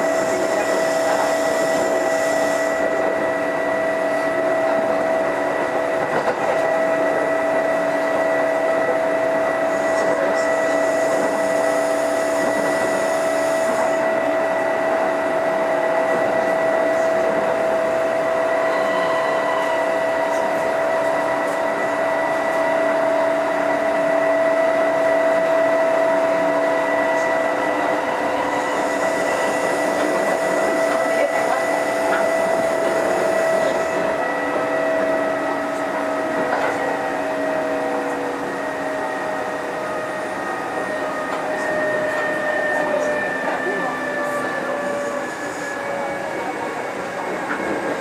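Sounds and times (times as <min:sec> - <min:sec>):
electric train motor whine: 0:00.0 - 0:48.0
wheels rumbling on rail: 0:00.0 - 0:48.0.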